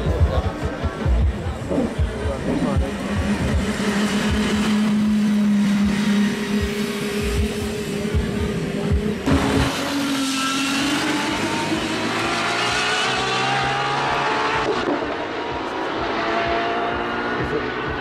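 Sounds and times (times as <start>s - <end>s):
race car accelerating hard: 1.6s - 18.0s.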